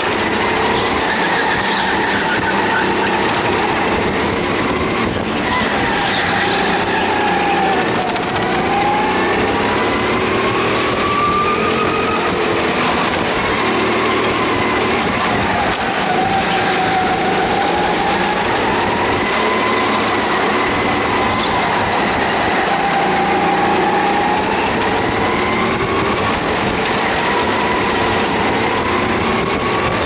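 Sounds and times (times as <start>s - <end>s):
go-kart engine: 0.0s - 30.0s.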